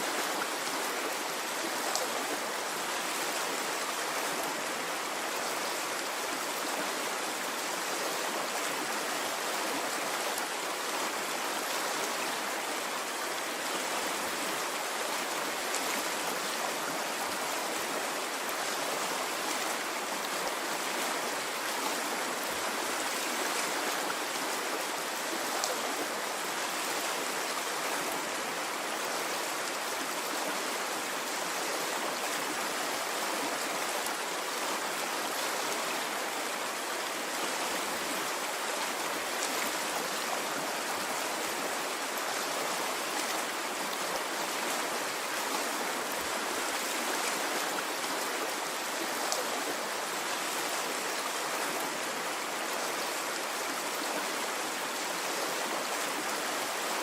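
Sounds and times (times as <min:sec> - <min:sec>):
stream flowing and splashing: 0:00.0 - 0:57.0.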